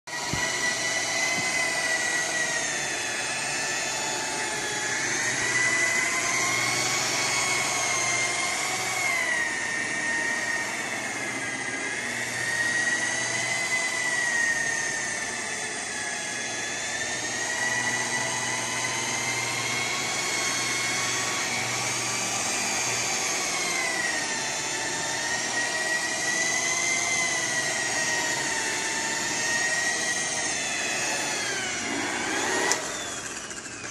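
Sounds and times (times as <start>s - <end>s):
electric polisher motor whine: 0.1s - 33.9s.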